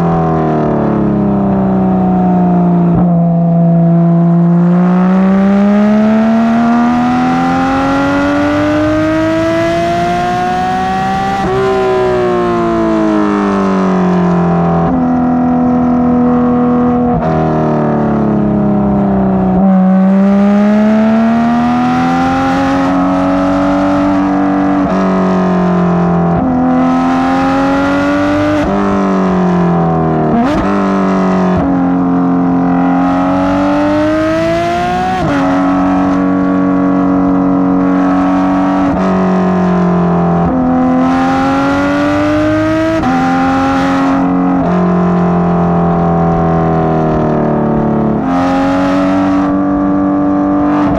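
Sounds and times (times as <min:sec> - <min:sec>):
car engine accelerating through gears: 0:00.0 - 0:50.9.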